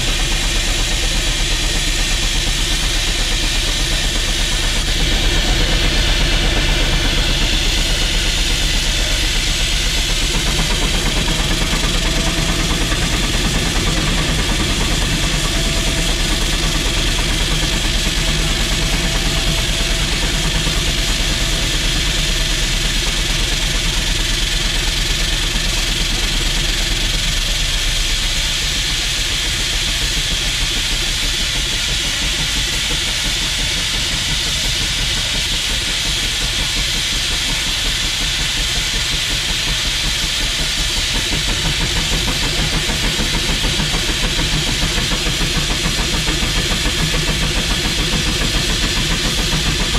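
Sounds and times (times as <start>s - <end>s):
low engine running noise: 0.0s - 49.9s
steam hissing: 0.0s - 49.9s.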